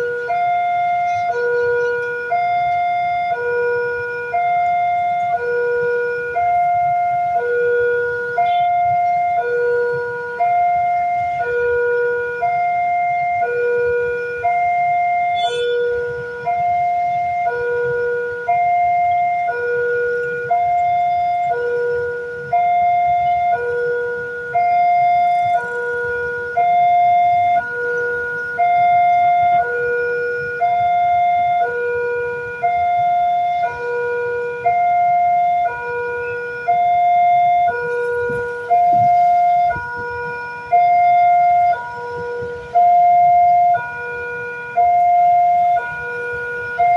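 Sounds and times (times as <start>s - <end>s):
two-tone level crossing alarm: 0.0s - 46.9s.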